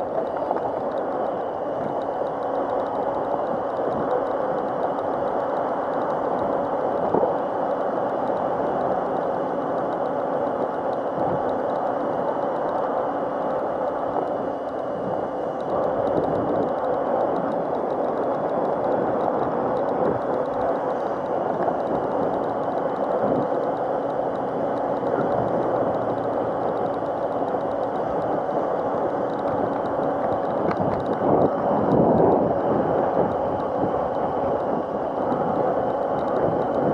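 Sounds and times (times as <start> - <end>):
faint electric motor whine: 0.0 - 36.9
road traffic: 0.0 - 36.9
wind and tyre noise: 0.0 - 36.9.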